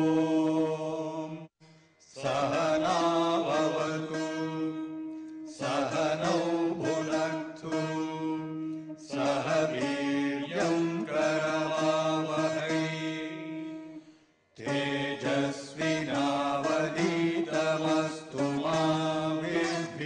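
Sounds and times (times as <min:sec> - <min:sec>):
chanted vocal music: 0:00.0 - 0:20.0.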